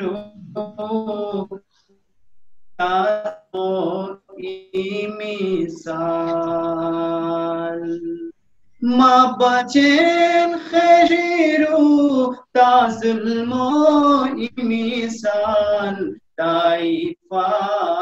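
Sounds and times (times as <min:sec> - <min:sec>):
person singing devotional song: 0:00.0 - 0:01.7, 0:02.8 - 0:18.0.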